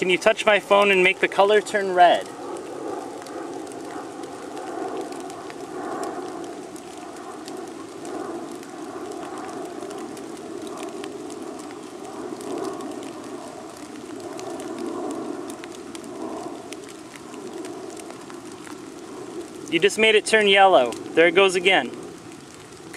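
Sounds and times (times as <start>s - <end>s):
faint ticks and crackles: 0.0s - 22.9s.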